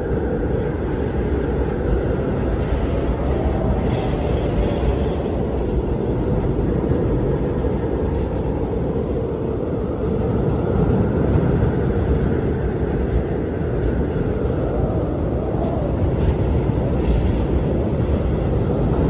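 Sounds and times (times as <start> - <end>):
wind howling: 0.0 - 19.0.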